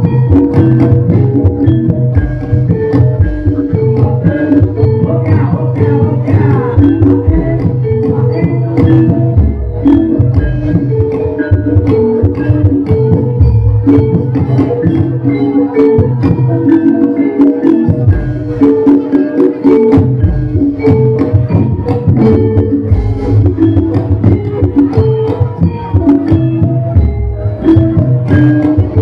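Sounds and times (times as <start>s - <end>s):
drum and percussion beat: 0.0s - 29.0s
metallophones ringing: 0.0s - 29.0s.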